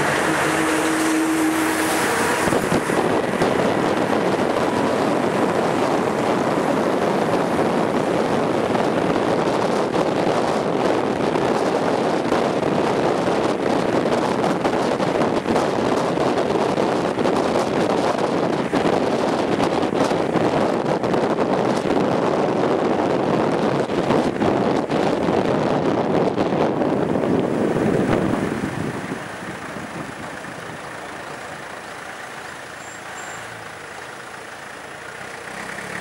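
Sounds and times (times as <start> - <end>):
wind rushing on microphone: 0.0 - 33.9
low hum of passing lorry: 0.0 - 36.0
moving vehicle travel noise: 0.0 - 36.0.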